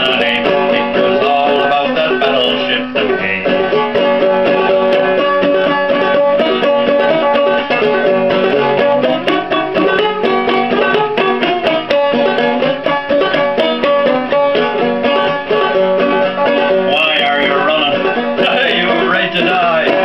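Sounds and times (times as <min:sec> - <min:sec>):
banjo plucking and strumming: 0:00.0 - 0:20.0.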